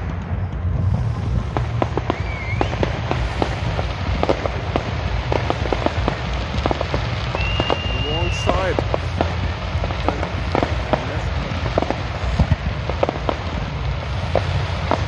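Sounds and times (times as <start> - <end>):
fireworks crackling: 0.0 - 15.0
low rumble: 0.0 - 15.0
firework whistle: 0.8 - 15.0.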